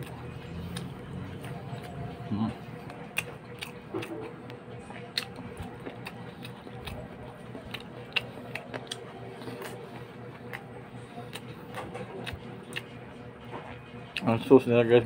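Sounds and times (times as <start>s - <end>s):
chewing clicks and lip smacks: 0.0s - 2.0s, 2.8s - 13.0s
steady low hum: 0.0s - 15.0s.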